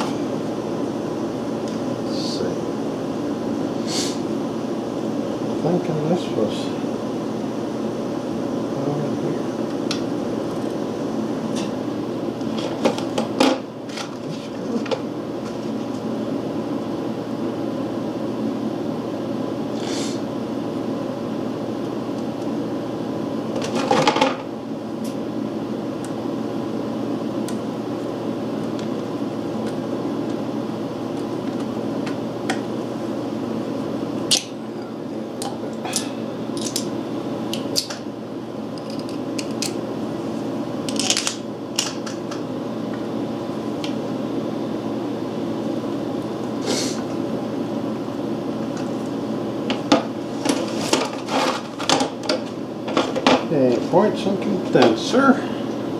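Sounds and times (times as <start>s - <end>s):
steady mechanical hum: 0.0s - 55.9s.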